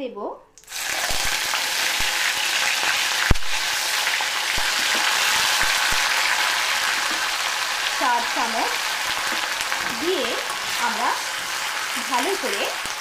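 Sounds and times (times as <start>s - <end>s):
onion paste sizzling in oil: 0.6s - 13.0s.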